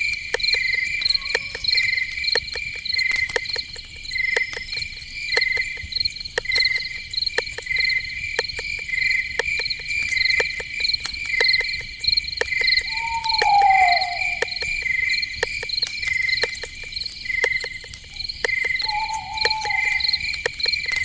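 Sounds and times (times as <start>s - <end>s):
crickets chirping: 0.0s - 21.0s
sharp ticks: 0.0s - 21.0s.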